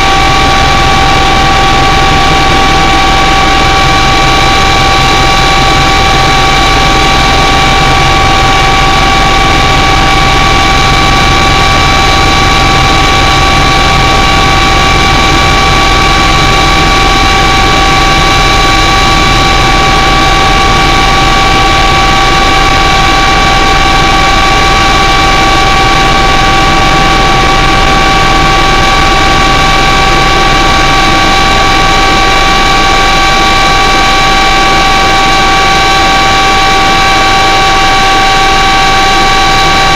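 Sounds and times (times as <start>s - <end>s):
aircraft engines droning: 0.0s - 39.9s
high engine whine: 0.0s - 39.9s.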